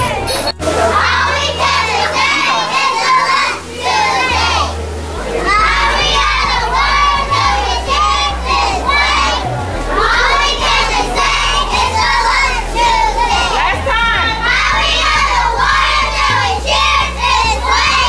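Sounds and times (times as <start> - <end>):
girls chanting a cheer: 0.0 - 18.0
low bass line: 0.0 - 18.0.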